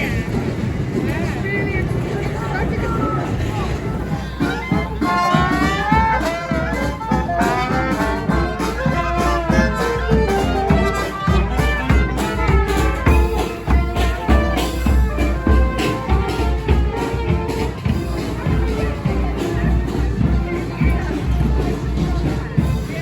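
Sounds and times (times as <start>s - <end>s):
brass band playing: 1.9s - 23.0s
drum strikes: 3.2s - 23.0s.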